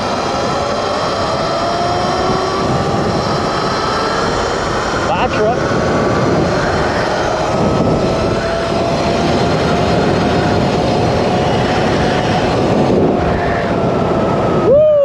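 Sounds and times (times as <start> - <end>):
electric motor whine: 0.0 - 15.0
wind and road rush: 0.0 - 15.0.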